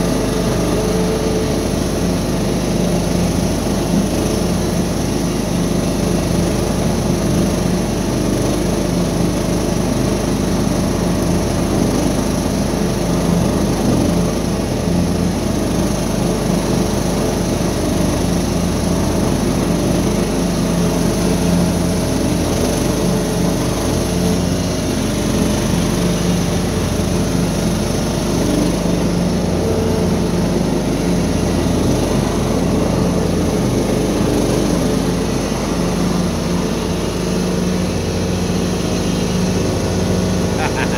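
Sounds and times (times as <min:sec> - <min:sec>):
riding lawn mower engine: 0:00.0 - 0:40.9.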